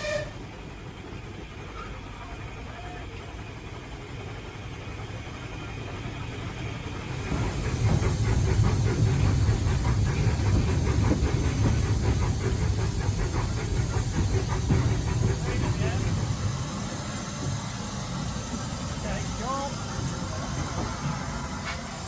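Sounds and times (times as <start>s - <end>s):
steam hissing: 0.0s - 22.0s
steam locomotive rumble: 0.0s - 22.0s
locomotive fast regular beat: 2.3s - 22.0s.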